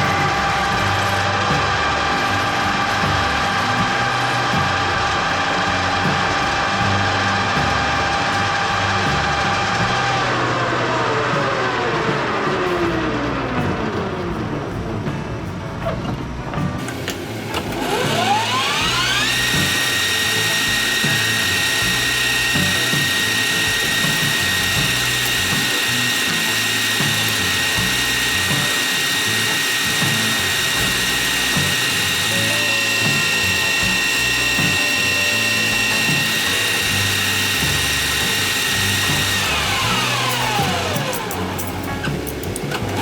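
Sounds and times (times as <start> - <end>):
metal lathe running: 0.0 - 12.8, 16.8 - 43.0
high gearbox whine: 0.0 - 43.0.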